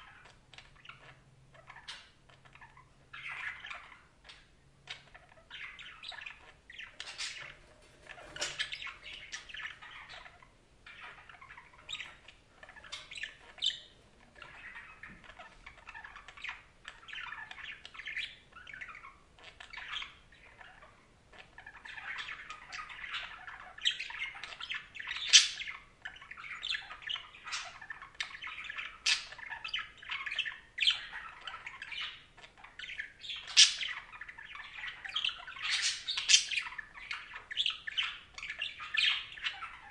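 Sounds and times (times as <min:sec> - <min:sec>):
bird squawks: 0:00.0 - 0:39.9
budgerigars chattering: 0:00.0 - 0:39.9.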